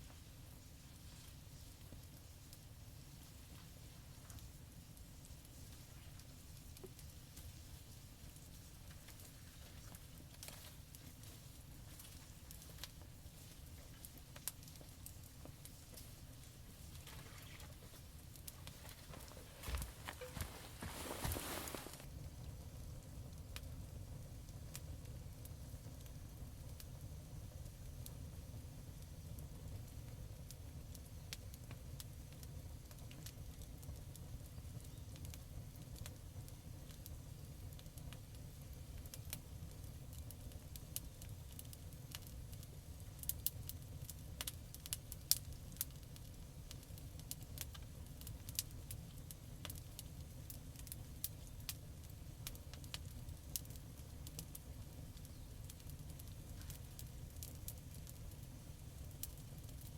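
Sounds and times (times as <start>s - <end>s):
campfire crackling and popping: 0.0s - 59.9s
low steady fire rumble: 0.0s - 59.9s.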